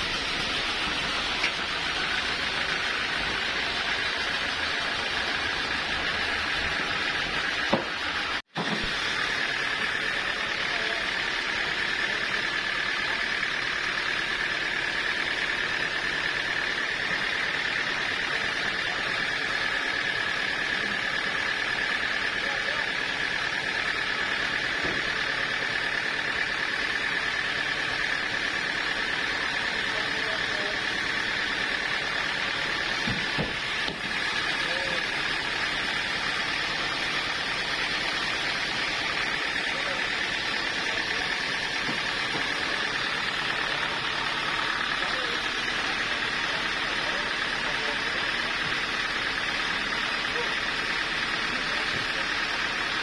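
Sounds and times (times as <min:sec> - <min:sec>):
sawmill saw whining: 0:00.0 - 0:53.0.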